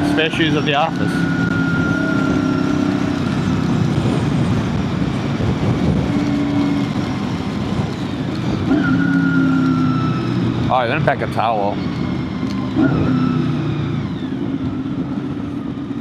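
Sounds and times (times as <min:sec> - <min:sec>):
motorcycle engine running with whine: 0:00.0 - 0:16.0
wind noise: 0:00.0 - 0:16.0.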